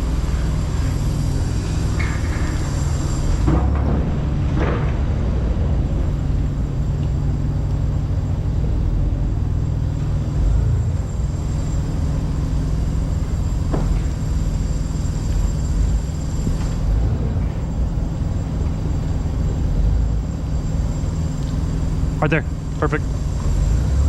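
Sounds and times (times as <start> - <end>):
diesel truck engine idling: 4.1 - 24.0.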